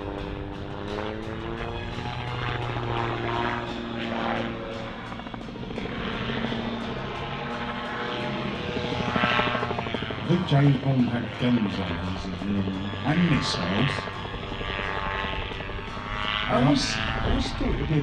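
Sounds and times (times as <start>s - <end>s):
music playing: 0.0s - 18.0s
propeller engine running: 0.0s - 18.0s.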